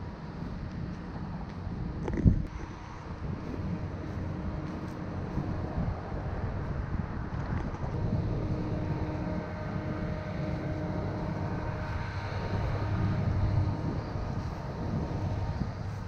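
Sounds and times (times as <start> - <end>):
car engine and road rumble: 0.0 - 16.0
faint steady hum: 0.0 - 16.0.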